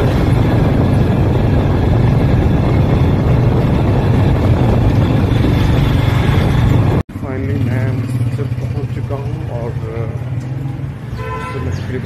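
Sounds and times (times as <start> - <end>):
vehicle engine running: 0.0 - 11.1
road noise: 0.0 - 12.0.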